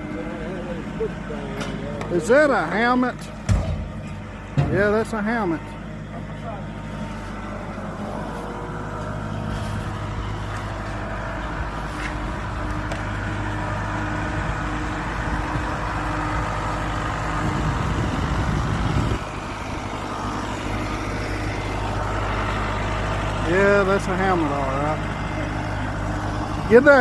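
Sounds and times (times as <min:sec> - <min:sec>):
heavy low rumble: 0:00.0 - 0:27.0
tractor engine running: 0:00.0 - 0:27.0.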